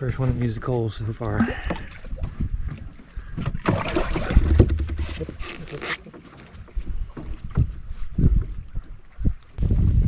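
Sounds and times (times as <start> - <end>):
wind rumbling on microphone: 0.0 - 5.7, 6.6 - 10.0.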